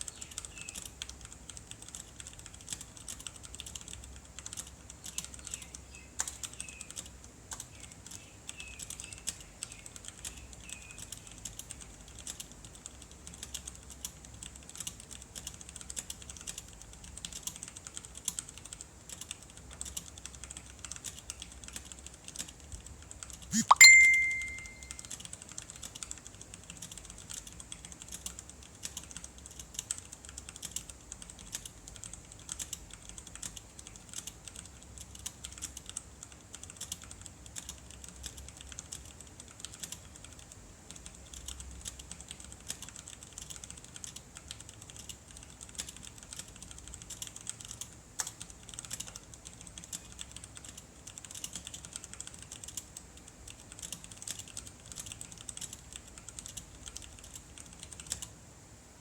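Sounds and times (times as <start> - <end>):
mechanical keyboard typing: 0.0 - 58.4.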